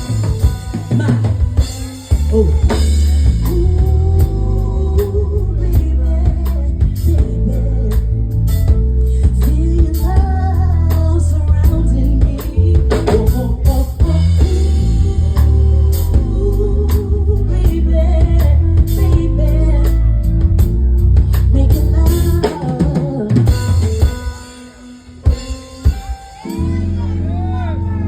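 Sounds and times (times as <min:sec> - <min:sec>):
person singing: 0:00.0 - 0:20.4, 0:21.3 - 0:28.0
bass: 0:00.0 - 0:28.0
drum kit: 0:00.0 - 0:28.0
live band music: 0:00.0 - 0:28.0.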